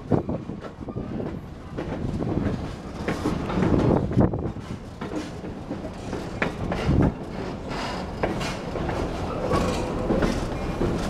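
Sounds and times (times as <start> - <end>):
railroad car clanks: 0.0 - 11.0
train wheels rumbling on rails: 0.0 - 11.0.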